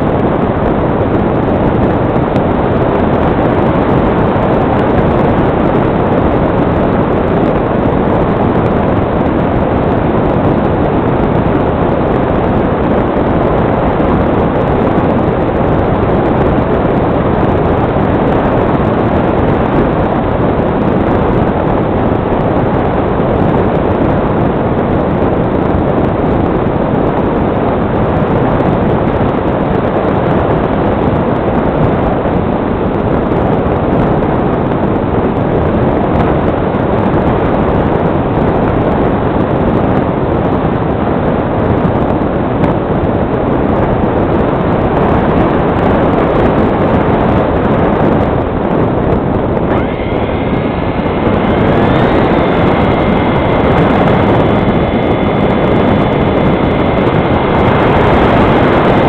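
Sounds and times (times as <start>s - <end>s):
airflow rushing over camera: 0.0s - 59.0s.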